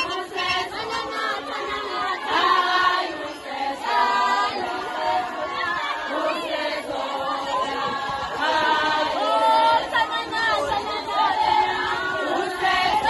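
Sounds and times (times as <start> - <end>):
women and girls singing in chorus: 0.0 - 13.0.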